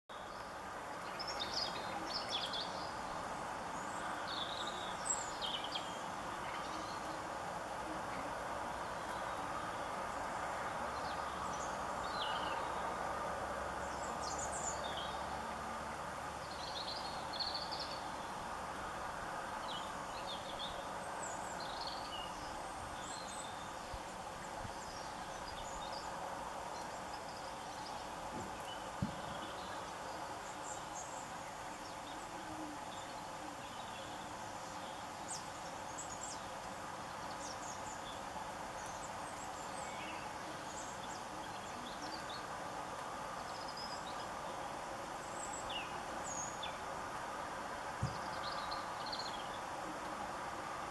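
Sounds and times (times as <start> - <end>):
small birds chirping: 0.1 - 47.0, 47.9 - 50.2
steady background hiss: 0.1 - 50.9.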